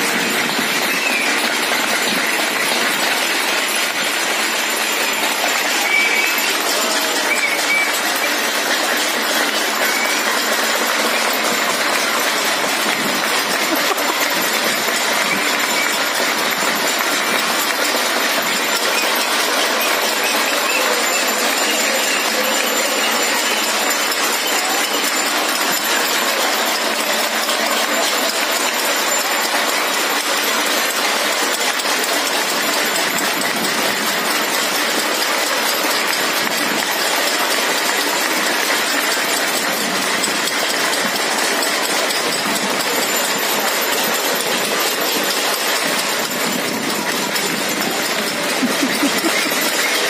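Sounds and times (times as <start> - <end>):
people clapping: 0.0 - 50.0
spoons beating steel plates and pots: 0.0 - 50.0.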